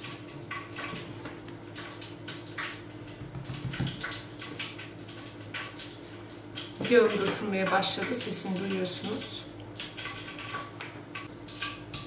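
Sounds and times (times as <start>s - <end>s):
oil crackling in a pan: 0.0s - 12.0s.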